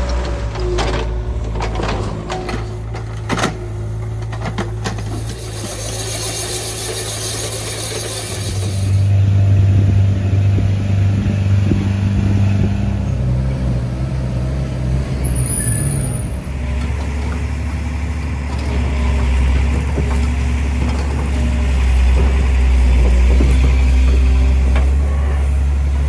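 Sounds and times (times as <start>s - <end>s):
forestry machine diesel engine: 0.0s - 26.0s
log truck engine driving: 0.0s - 26.0s.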